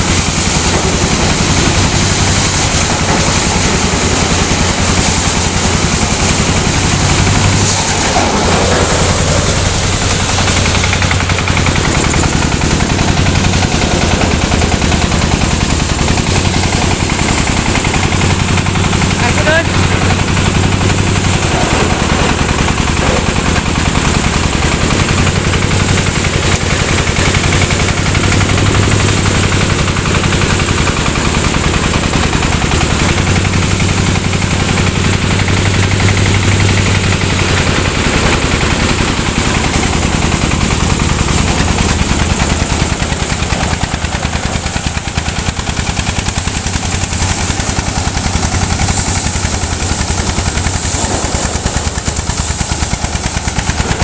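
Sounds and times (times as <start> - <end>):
diesel engine running under load: 0.0 - 54.0
rapid exhaust rattle: 0.0 - 54.0.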